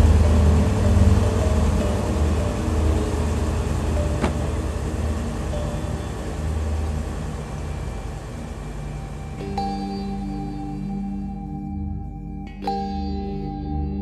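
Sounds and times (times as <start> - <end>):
heavy machinery engine rumbling: 0.0 - 12.2.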